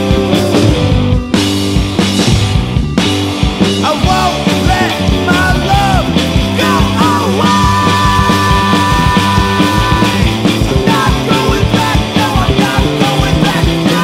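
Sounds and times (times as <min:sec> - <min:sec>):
lead guitar line bending pitch: 0:00.0 - 0:14.0
rock band playing: 0:00.0 - 0:14.0.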